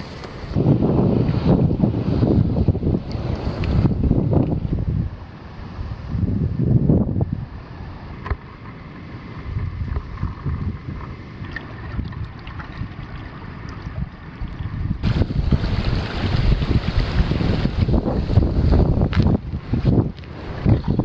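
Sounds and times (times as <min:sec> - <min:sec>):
wind gusting over microphone: 0:00.0 - 0:21.0.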